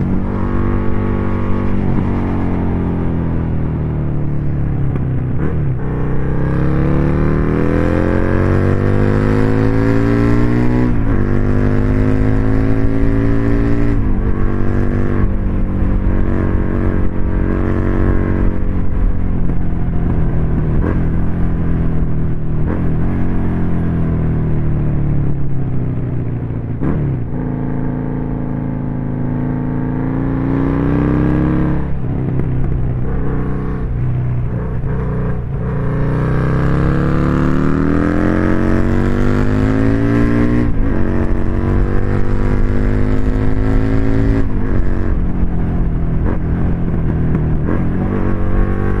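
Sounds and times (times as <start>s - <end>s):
motorcycle engine revving under load: 0.0s - 49.0s.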